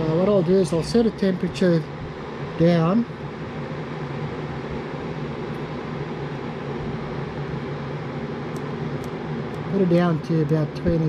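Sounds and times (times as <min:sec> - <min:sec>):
electric kettle heating: 0:00.0 - 0:11.0.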